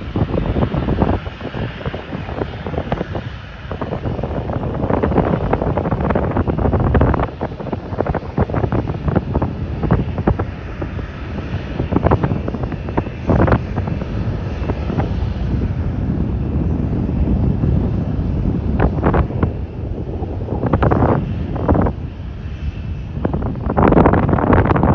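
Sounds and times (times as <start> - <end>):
jet engines rumbling: 0.0 - 24.9
wind buffeting microphone: 0.0 - 24.9.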